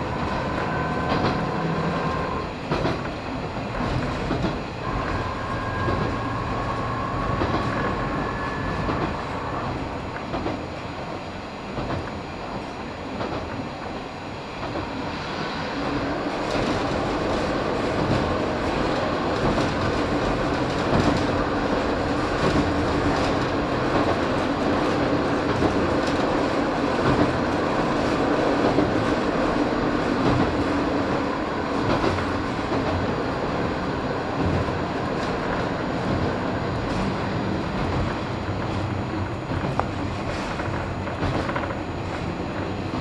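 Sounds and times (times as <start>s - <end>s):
diesel railcar engine drone: 0.0s - 43.0s
train rolling noise: 0.0s - 43.0s.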